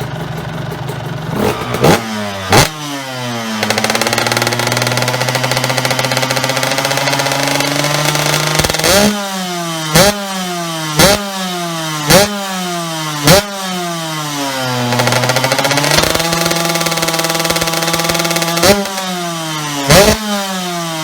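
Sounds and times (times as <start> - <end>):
motocross engine revving: 0.0 - 21.0.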